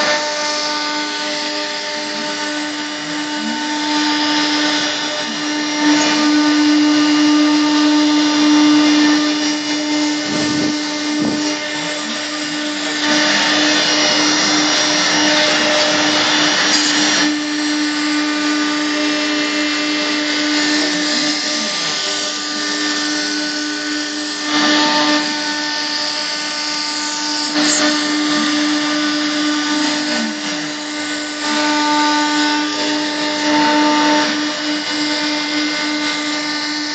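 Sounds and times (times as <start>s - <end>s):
router spindle motor whine: 0.0s - 36.9s.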